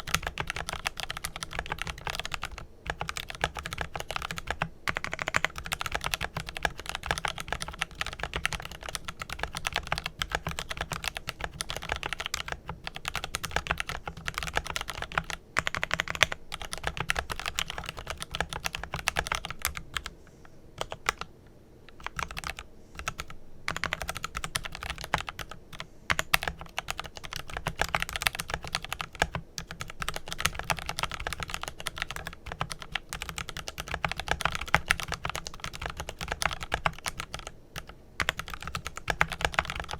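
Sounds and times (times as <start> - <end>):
mechanical keyboard typing: 0.0 - 20.1, 20.8 - 21.3, 21.9 - 39.9.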